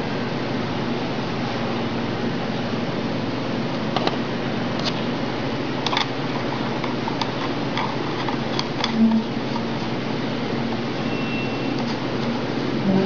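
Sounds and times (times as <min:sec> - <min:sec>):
steady hiss with faint hum: 0:00.0 - 0:13.0.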